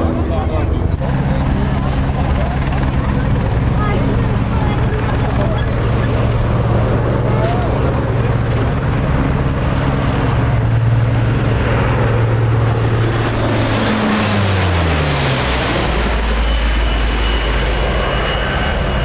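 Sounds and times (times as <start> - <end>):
turboprop aircraft flying past: 0.0 - 19.0.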